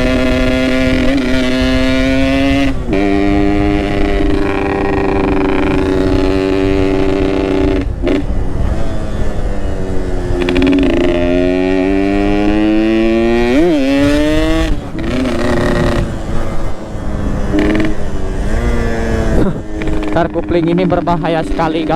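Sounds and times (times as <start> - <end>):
two-stroke motorcycle engine: 0.0 - 21.9.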